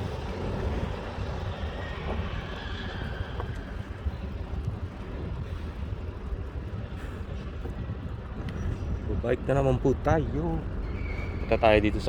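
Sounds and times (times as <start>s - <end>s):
rolling road noise: 0.0s - 12.0s
wind buffeting microphone: 0.0s - 12.0s.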